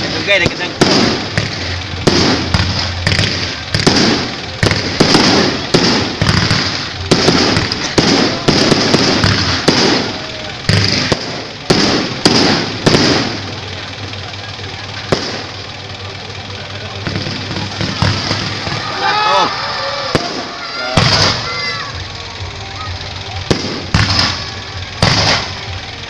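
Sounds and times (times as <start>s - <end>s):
fireworks bursting with sharp bangs: 0.0s - 26.0s.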